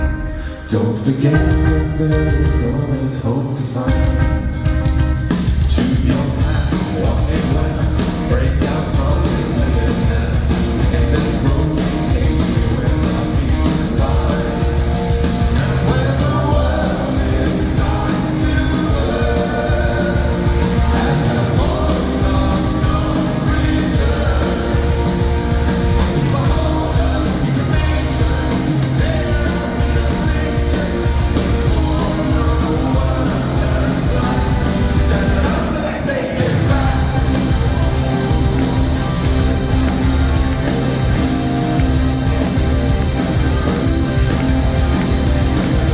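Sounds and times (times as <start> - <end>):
bass guitar: 0.0 - 45.9
distorted guitars: 0.0 - 45.9
drums: 0.0 - 45.9.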